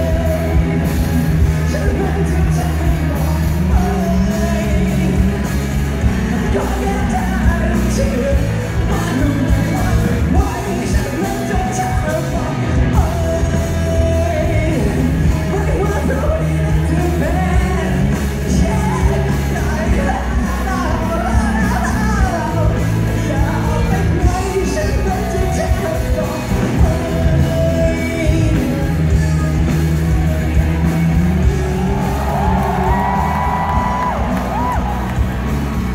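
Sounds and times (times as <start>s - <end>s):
man singing: 0.0s - 34.8s
drums: 0.0s - 35.9s
heavy bass line: 0.0s - 35.9s
live rock band: 0.0s - 35.9s.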